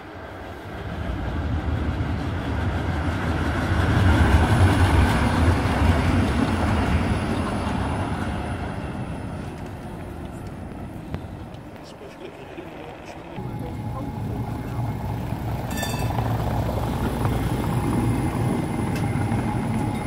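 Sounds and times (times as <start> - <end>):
tram rumbling past on rails: 0.0 - 20.0.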